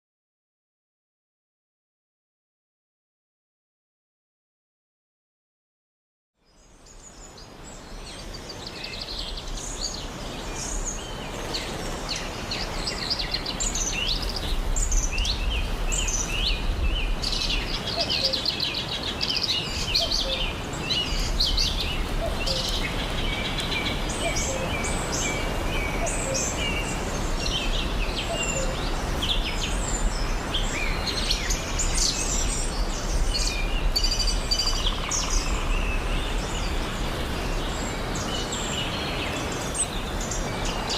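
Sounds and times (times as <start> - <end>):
birds chirping and trilling: 6.4 - 40.9.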